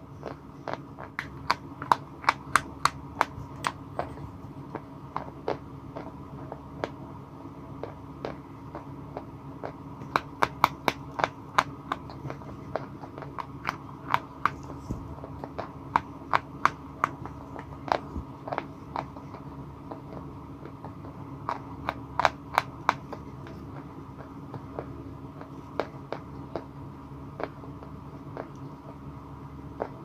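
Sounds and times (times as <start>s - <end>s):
chalk crunching being chewed: 0.1s - 7.0s, 7.8s - 26.7s, 27.4s - 29.0s.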